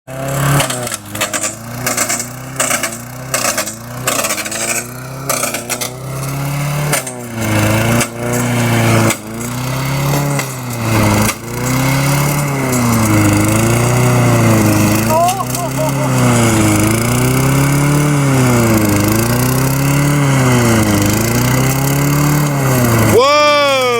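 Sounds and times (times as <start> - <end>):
lawn mower engine running: 0.1 - 23.9.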